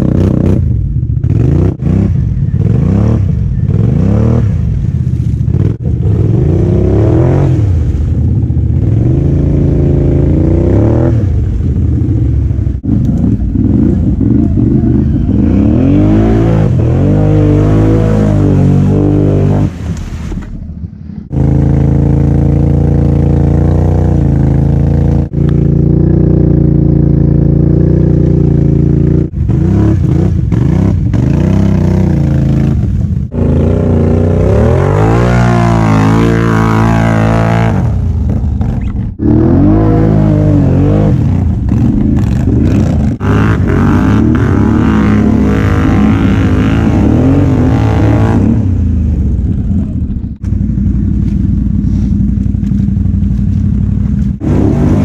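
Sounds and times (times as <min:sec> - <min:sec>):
atv engine revving in mud: 0:00.0 - 0:20.3, 0:21.3 - 0:55.0.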